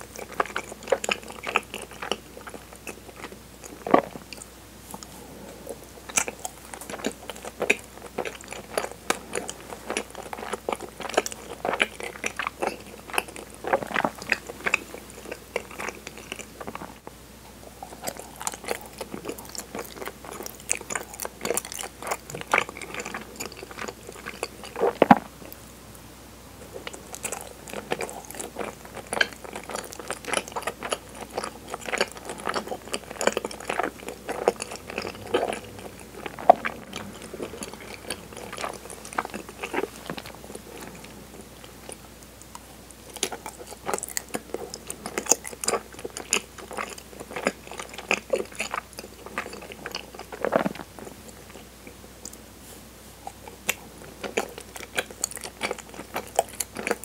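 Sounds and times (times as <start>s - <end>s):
wet chewing mouth clicks: 0.0s - 17.0s, 17.8s - 25.6s, 26.8s - 52.4s, 53.2s - 57.0s.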